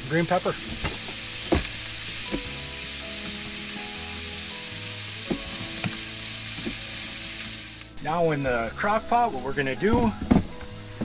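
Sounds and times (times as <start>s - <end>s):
steak sizzling in frying pan: 0.0s - 11.0s.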